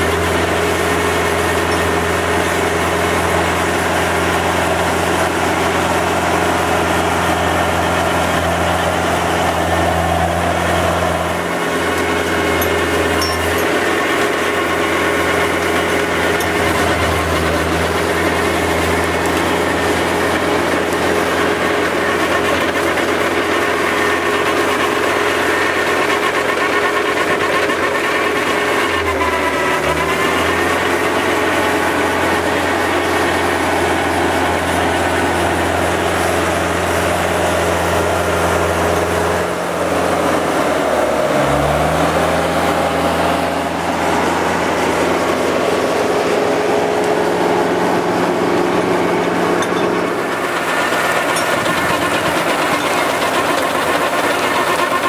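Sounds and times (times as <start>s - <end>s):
mulcher shredding brush: 0.0s - 55.0s
tractor engine running: 0.0s - 55.0s.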